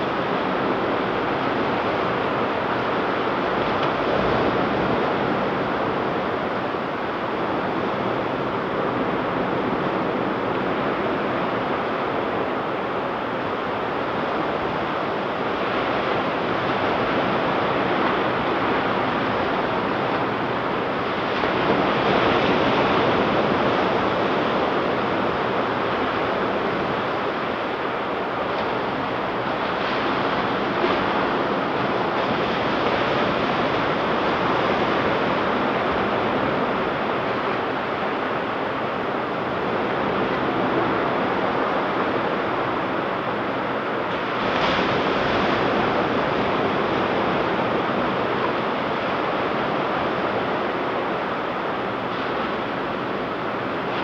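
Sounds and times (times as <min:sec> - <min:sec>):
ocean surf breaking on beach: 0:00.0 - 0:54.0
wind noise on microphone: 0:00.0 - 0:54.0.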